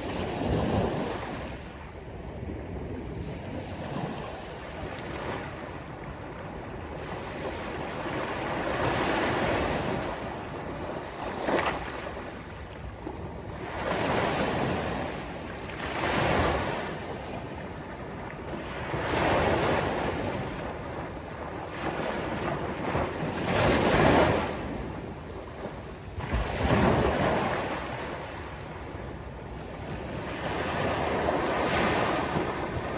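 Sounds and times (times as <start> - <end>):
sea waves breaking on beach: 2.4 - 32.9.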